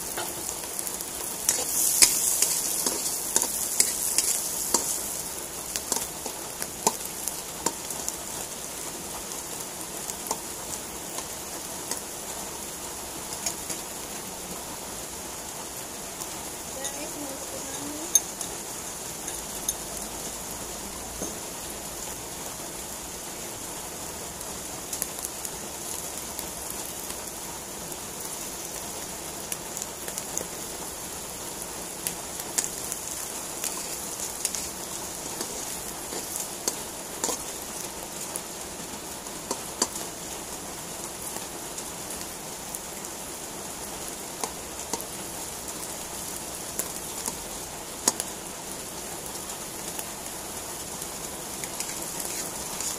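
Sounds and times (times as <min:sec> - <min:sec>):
mushrooms sizzling in oil: 0:00.0 - 0:52.9.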